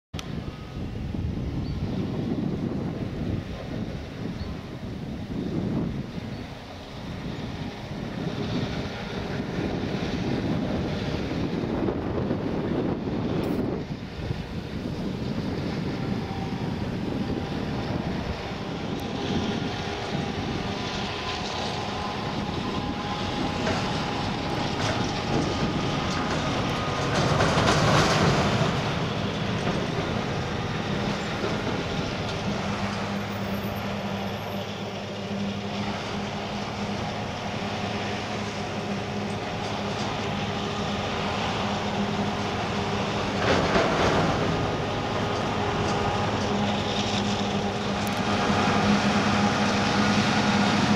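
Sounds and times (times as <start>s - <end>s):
diesel farm machinery running: 0.2s - 50.9s.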